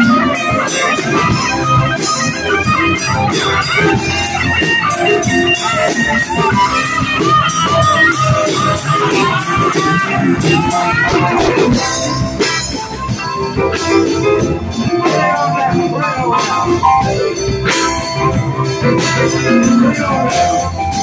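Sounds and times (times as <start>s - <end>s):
electric guitar lead: 0.0s - 21.0s
live rock band playing: 0.0s - 21.0s.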